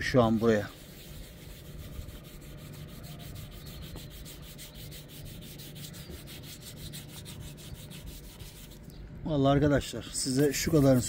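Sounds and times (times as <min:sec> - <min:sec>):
sponge rubbing car paintwork: 0:00.1 - 0:08.9, 0:10.2 - 0:11.0.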